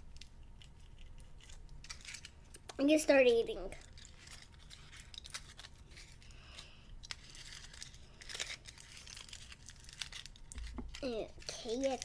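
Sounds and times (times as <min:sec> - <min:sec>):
foil wrapper crinkling and tearing: 0:00.2 - 0:02.7, 0:03.7 - 0:12.0.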